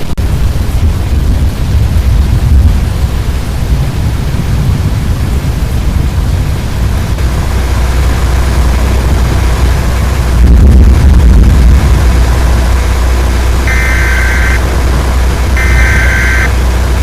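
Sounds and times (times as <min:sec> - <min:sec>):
strong wind blowing: 0:00.0 - 0:17.0.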